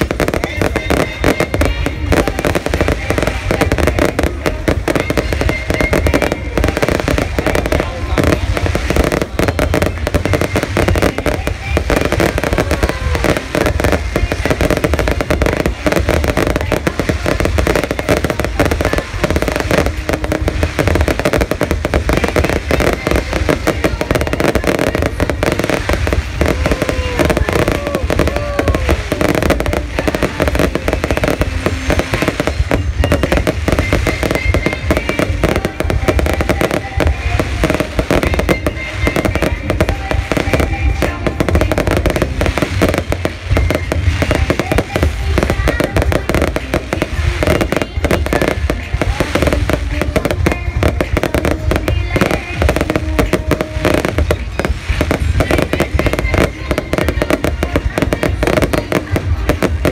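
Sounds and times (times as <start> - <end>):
crowd voices: 0.0 - 59.9
fireworks bangs and crackles: 0.0 - 59.9
music: 0.0 - 59.9.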